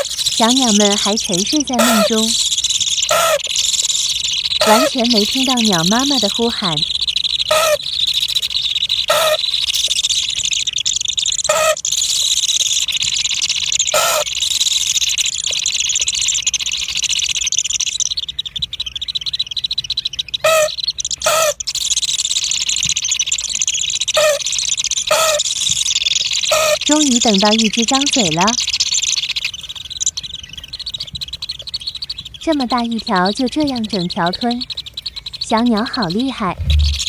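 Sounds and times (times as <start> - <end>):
short bird calls: 0.0 - 32.8.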